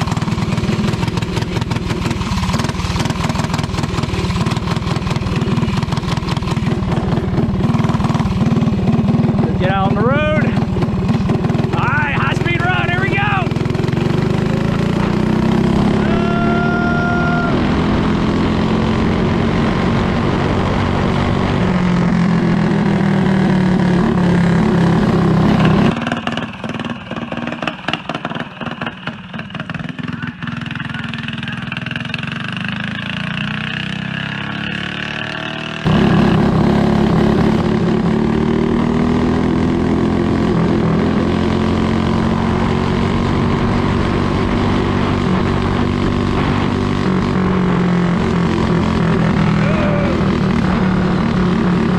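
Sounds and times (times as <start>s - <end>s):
go-kart engine revving: 0.0s - 51.9s.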